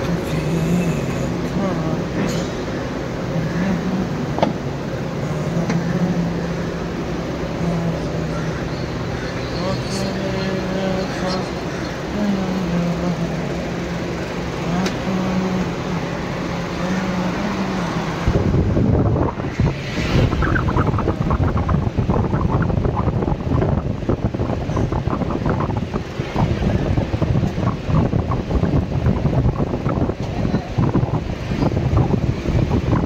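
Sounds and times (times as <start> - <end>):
low machine hum: 0.0 - 33.0
wind buffeting microphone: 0.0 - 33.0.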